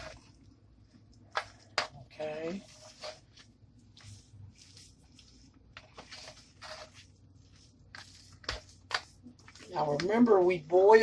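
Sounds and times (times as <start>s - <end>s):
wet squishing and scraping: 0.0s - 11.0s.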